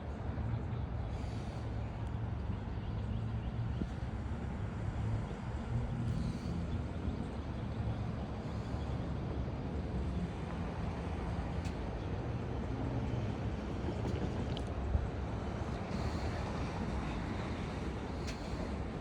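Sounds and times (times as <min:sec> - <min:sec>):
engine rumble: 0:00.0 - 0:19.0.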